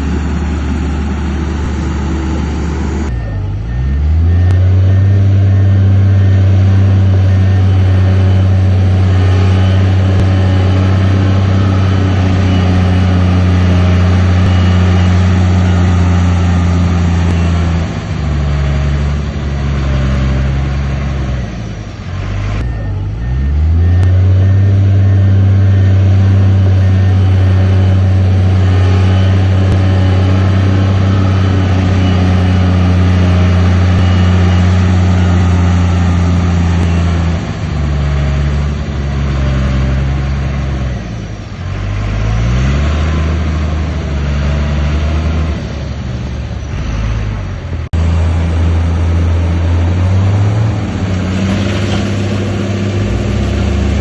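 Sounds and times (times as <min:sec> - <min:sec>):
faint beeping: 0:00.0 - 0:51.1
heavy diesel engine running: 0:00.0 - 0:54.0.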